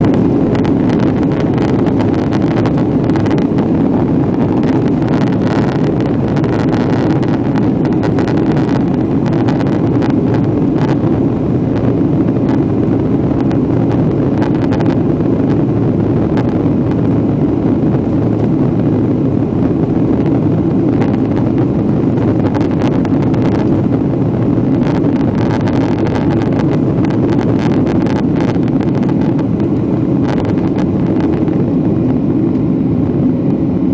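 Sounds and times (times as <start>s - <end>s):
jet engines rumbling in cabin: 0.0s - 33.9s.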